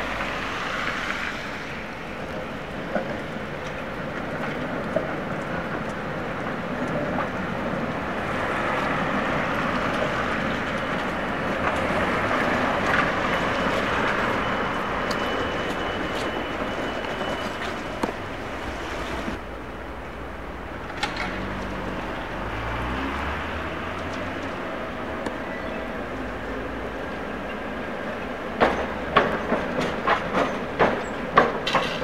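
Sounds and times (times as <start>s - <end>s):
street noise: 0.0s - 32.0s
tram wheels rumbling on rails: 0.0s - 32.0s.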